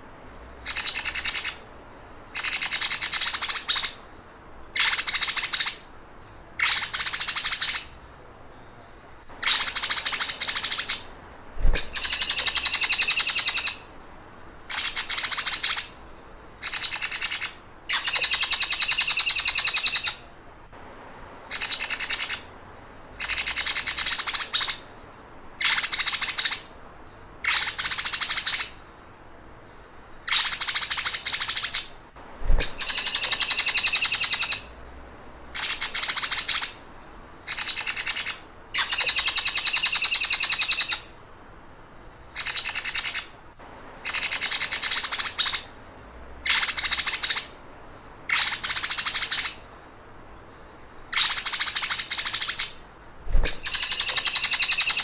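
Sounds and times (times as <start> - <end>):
songbird rattling trill: 0.3 - 8.2, 8.9 - 20.3, 21.3 - 24.9, 29.7 - 41.1, 42.0 - 43.3, 44.0 - 49.8, 50.5 - 55.0.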